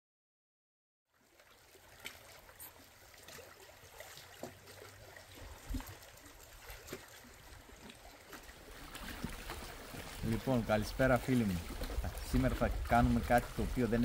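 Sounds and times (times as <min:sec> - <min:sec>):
sea water lapping among rocks: 0:01.1 - 0:14.0
small splashes and drips: 0:01.1 - 0:14.0.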